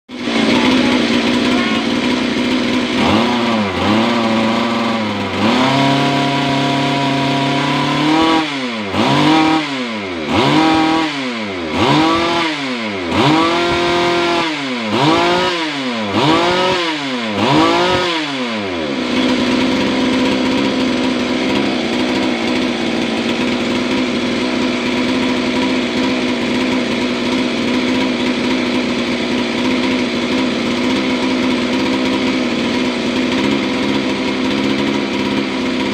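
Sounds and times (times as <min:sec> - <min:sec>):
chainsaw engine revving: 0:00.1 - 0:35.9.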